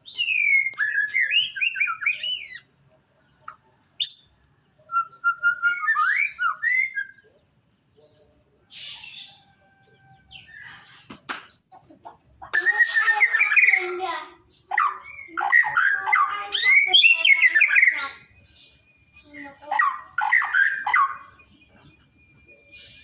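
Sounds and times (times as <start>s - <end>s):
bird whistled song: 0.0s - 2.7s, 3.4s - 7.4s, 8.1s - 10.7s, 11.4s - 12.0s, 12.6s - 23.0s.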